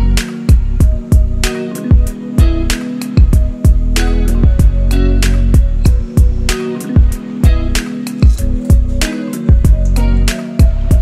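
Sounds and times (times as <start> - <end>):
bass drum thumps: 0.0 - 4.8, 5.4 - 9.9
background music: 0.0 - 11.0.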